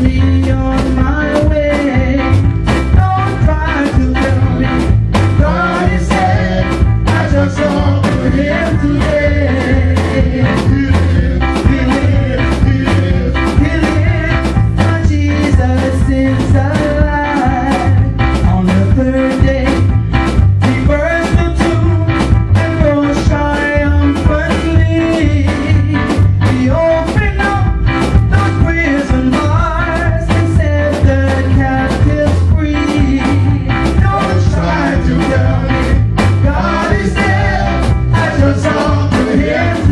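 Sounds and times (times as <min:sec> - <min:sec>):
gospel band music: 0:00.0 - 0:39.9.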